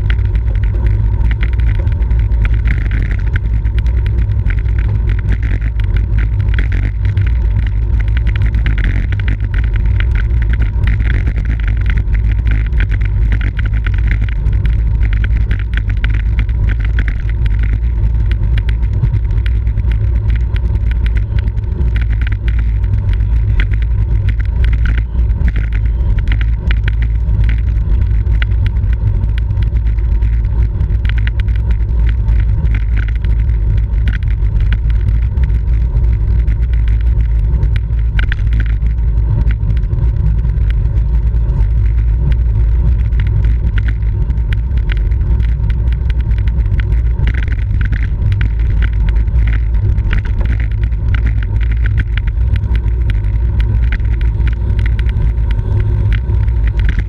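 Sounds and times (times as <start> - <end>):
faint clicks: 0.0 - 57.0
road and drivetrain noise: 0.0 - 57.0.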